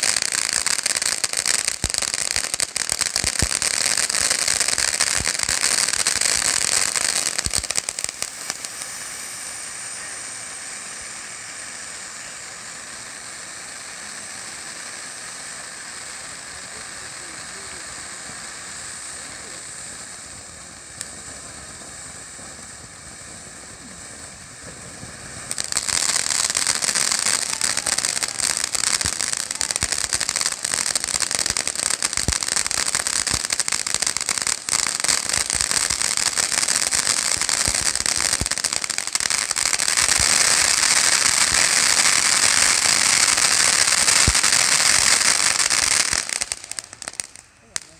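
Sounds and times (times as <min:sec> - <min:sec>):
firework crackling and pops: 0:00.0 - 0:47.9
firework spark hiss: 0:00.0 - 0:47.9.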